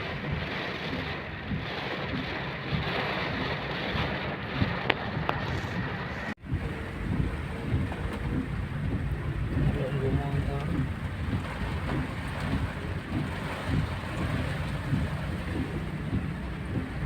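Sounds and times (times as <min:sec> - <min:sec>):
heavy rain: 0:00.0 - 0:17.0
wind rumbling on microphone: 0:00.0 - 0:17.0.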